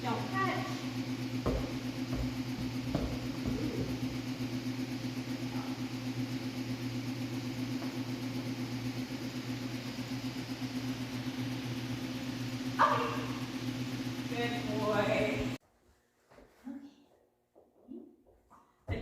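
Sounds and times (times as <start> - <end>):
machine humming: 0.0 - 15.6.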